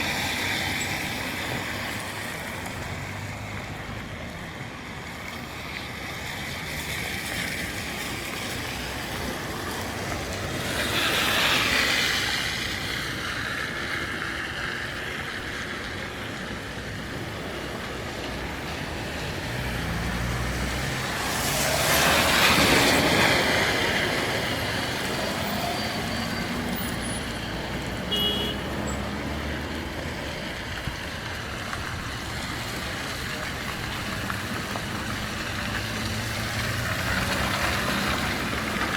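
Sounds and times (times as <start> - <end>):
steady road noise: 0.0 - 38.9
vehicles passing by: 0.0 - 38.9.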